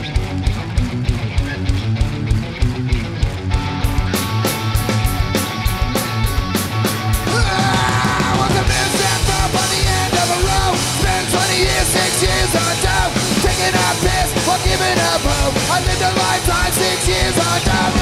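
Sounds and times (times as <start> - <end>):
electric guitar: 0.0 - 18.0
punk rock band playing live: 0.0 - 18.0.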